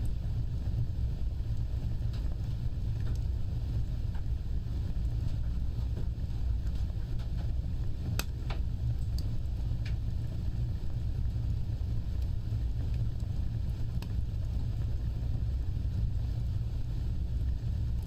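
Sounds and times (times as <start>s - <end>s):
fire crackles and pops: 0.0s - 18.0s
wood fire burning: 0.0s - 18.0s.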